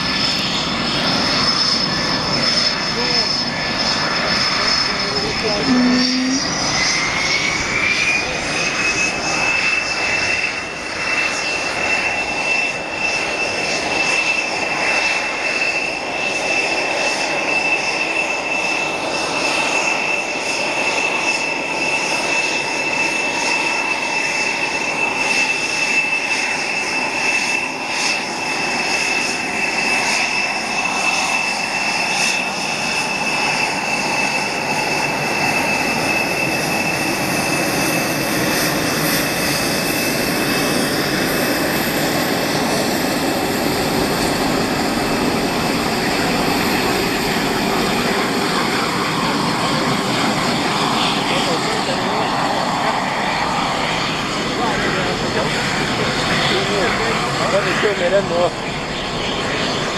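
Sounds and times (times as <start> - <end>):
jet engine high whine: 0.0 - 59.9
rushing jet noise: 0.0 - 59.9.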